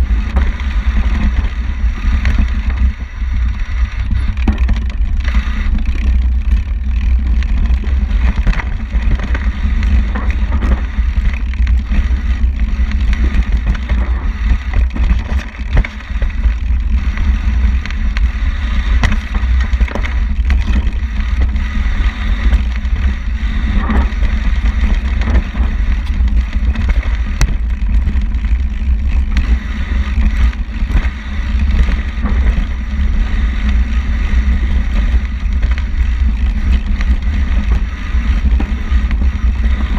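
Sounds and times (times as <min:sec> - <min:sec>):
bike clattering over rough trail: 0:00.0 - 0:39.9
wind buffeting microphone: 0:00.0 - 0:39.9.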